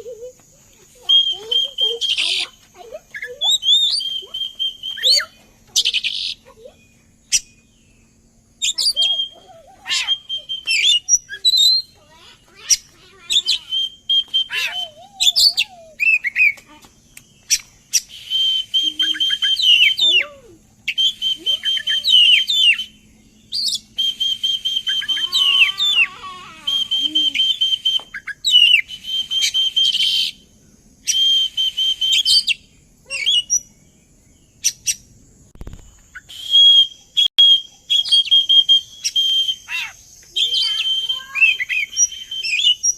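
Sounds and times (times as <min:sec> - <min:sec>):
bird singing whistles and chirps: 0:00.9 - 0:35.1, 0:36.1 - 0:42.9.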